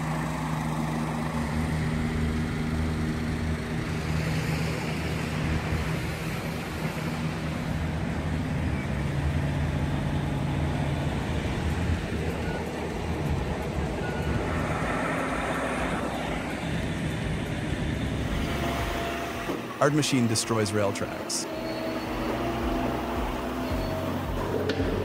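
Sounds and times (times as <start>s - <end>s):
road rumble: 0.0s - 25.0s
truck engines droning: 0.0s - 25.0s.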